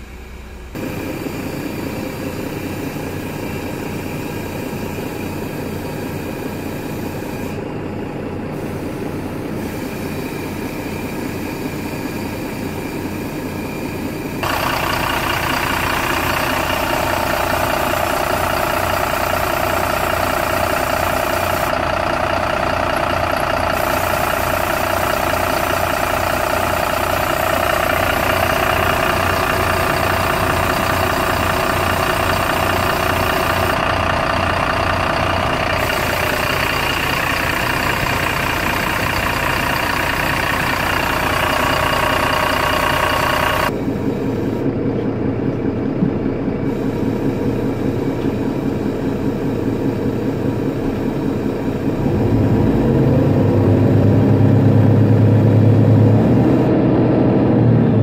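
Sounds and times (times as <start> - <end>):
diesel bus engine idling: 0.0 - 58.0.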